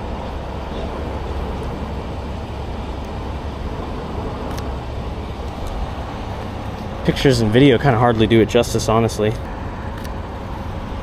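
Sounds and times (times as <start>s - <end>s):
motor vehicles rumbling: 0.0s - 11.0s.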